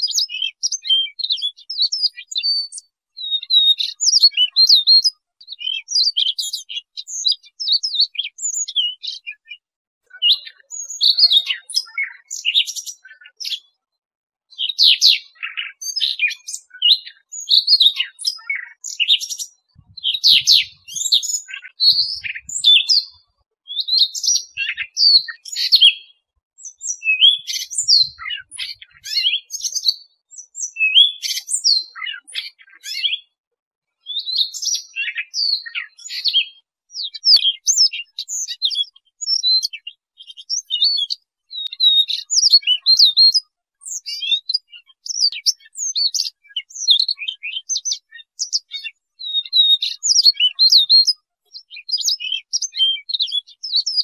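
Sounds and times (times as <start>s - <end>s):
bird singing warbled phrases: 0.0s - 54.0s.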